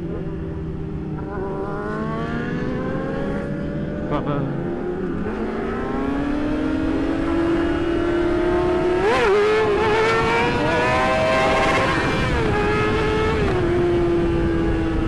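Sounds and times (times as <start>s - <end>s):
motorcycle engine accelerating: 0.0s - 15.0s
wind and road rush: 0.0s - 15.0s.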